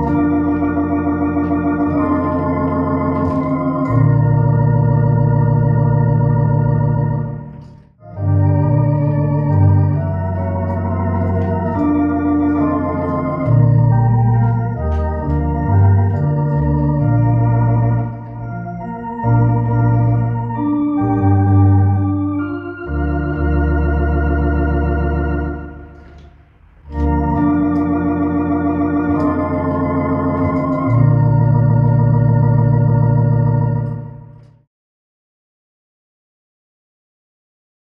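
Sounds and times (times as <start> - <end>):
deep organ pedal bass: 0.0 - 34.7
electronic organ chords: 0.0 - 34.7.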